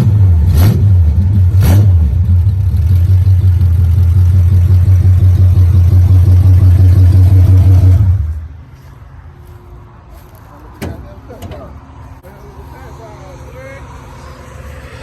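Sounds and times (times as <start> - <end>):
loud engine rumble: 0.0 - 15.0.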